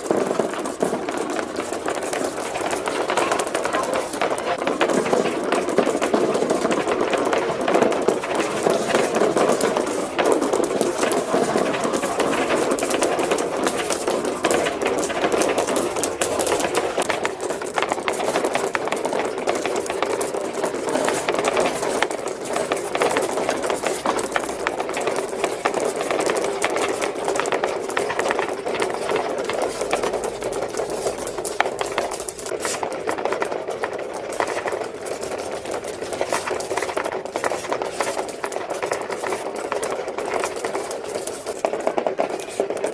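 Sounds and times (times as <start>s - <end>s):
marbles rattling on plastic ramps: 0.0s - 42.9s.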